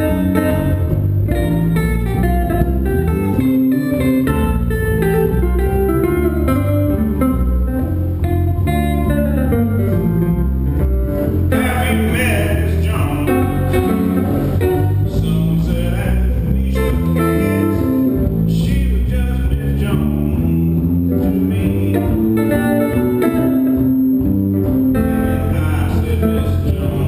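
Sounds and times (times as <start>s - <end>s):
electric bass line: 0.0s - 27.0s
jazz guitar chords and melody: 0.0s - 27.0s.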